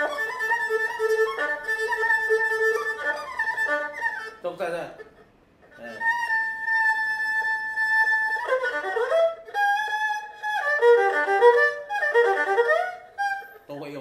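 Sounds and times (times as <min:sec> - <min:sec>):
bowed fiddle solo: 0:00.0 - 0:14.0.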